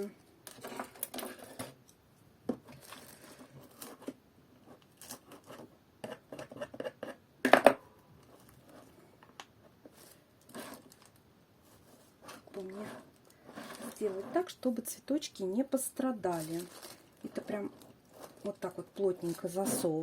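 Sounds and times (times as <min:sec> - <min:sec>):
rustling and crinkling: 0:00.0 - 0:05.8, 0:08.2 - 0:20.0.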